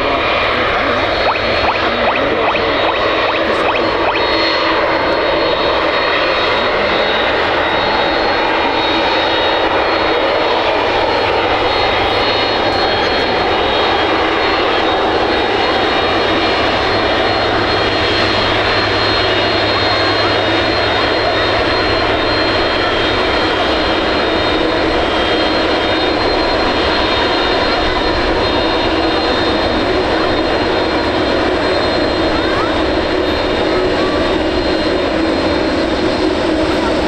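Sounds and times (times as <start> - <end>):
jet engines running: 0.0 - 37.0.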